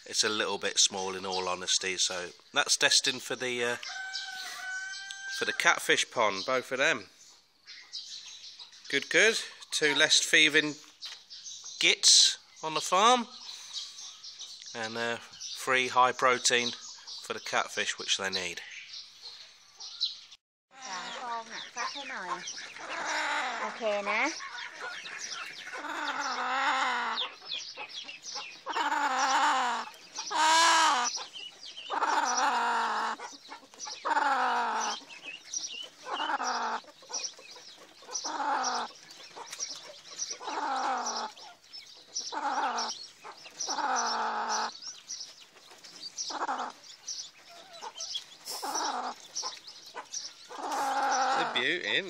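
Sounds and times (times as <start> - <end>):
chickens calling: 0.0 - 52.0.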